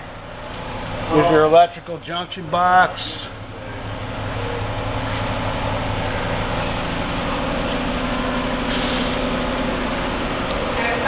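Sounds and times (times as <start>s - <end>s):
machinery humming and rattling: 0.0s - 11.0s.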